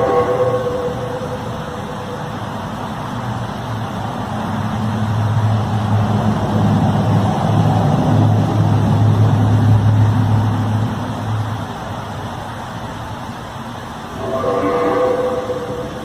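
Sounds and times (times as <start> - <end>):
low droning hum: 0.0 - 12.0, 14.0 - 16.0.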